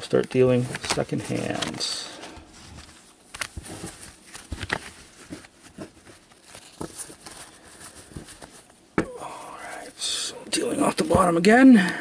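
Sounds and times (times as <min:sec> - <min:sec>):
playing cards tapping and rustling: 0:00.0 - 0:09.8, 0:10.6 - 0:11.9.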